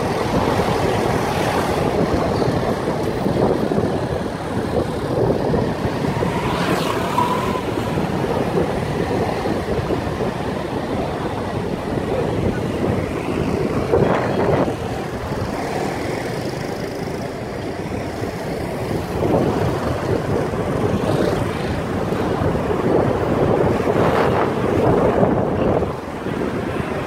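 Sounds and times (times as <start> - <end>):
car road noise: 0.0 - 27.0
wind buffeting microphone: 0.0 - 27.0.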